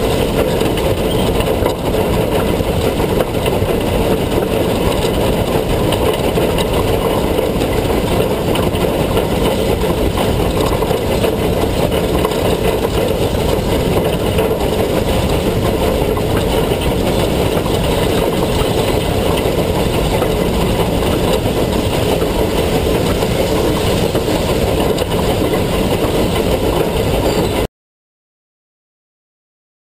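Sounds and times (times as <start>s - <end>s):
rush of wind: 0.0s - 27.7s
train running gear rumble: 0.0s - 27.7s.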